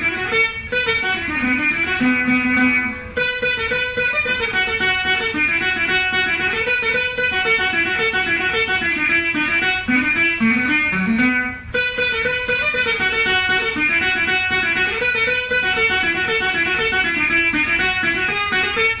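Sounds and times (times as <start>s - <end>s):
plucked floor zither melody: 0.0s - 19.0s.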